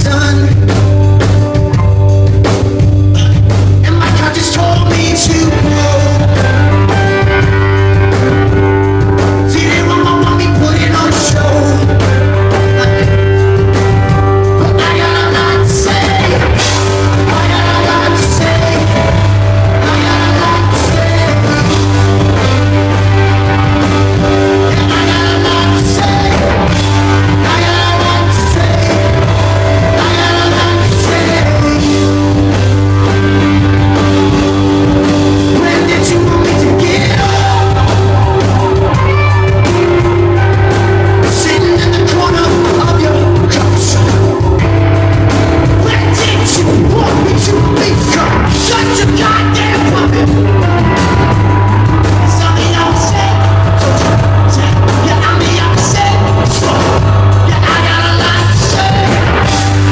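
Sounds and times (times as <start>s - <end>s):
person singing: 0.0s - 2.0s, 3.0s - 59.9s
rock band playing live: 0.0s - 59.9s.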